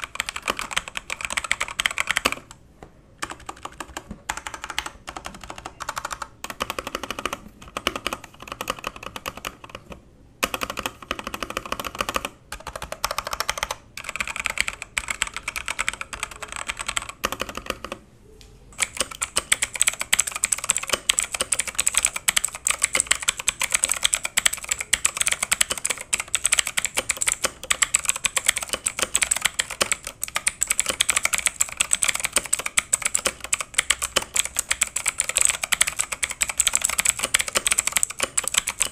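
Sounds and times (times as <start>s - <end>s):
mechanical keyboard typing: 0.0s - 2.6s, 3.2s - 18.0s, 18.8s - 38.9s.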